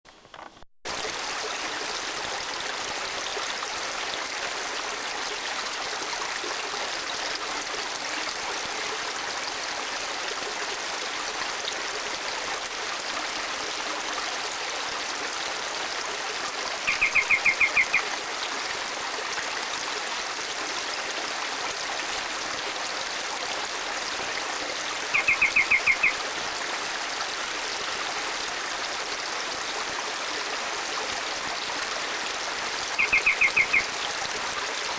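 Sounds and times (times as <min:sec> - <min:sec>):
stream rushing: 0:00.9 - 0:34.9.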